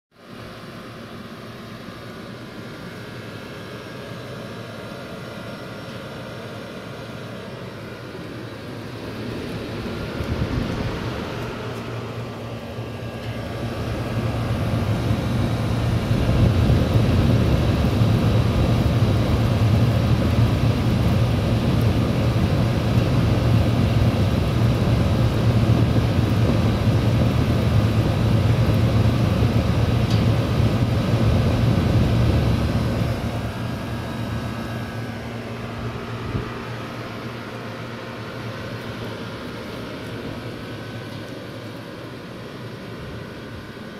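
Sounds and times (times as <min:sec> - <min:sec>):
air conditioner humming: 0:00.2 - 0:43.9.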